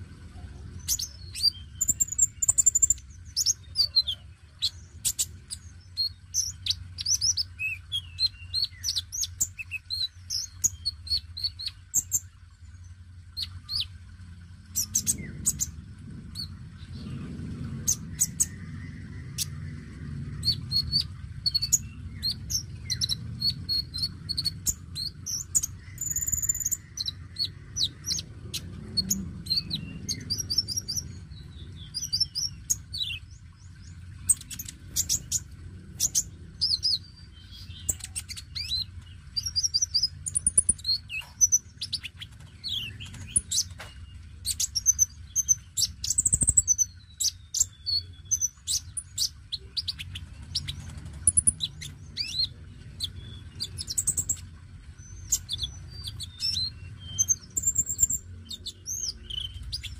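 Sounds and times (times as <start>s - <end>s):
low rumble: 0.0s - 59.9s
sunbird singing high chirps: 0.4s - 59.9s.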